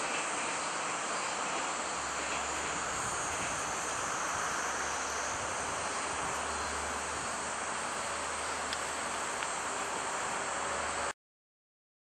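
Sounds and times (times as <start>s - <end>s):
high hiss: 0.0s - 11.2s.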